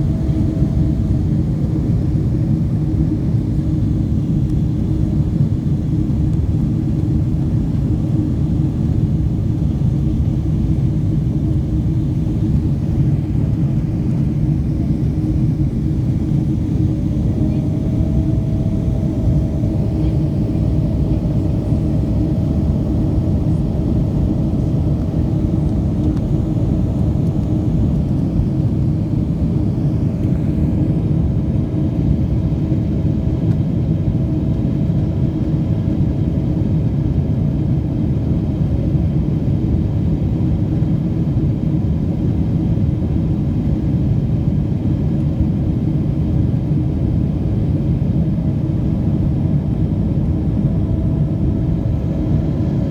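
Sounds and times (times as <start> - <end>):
aeroplane cabin rumble: 0.0 - 52.9.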